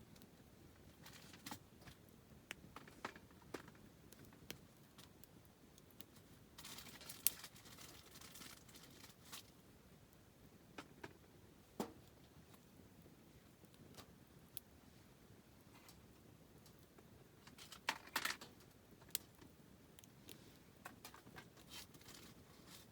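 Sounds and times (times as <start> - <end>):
campfire crackling and popping: 0.0 - 14.8, 15.4 - 22.9.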